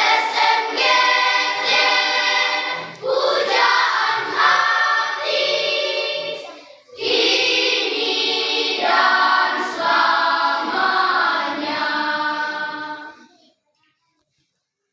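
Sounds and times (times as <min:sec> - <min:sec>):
choir singing a hymn: 0:00.0 - 0:13.2.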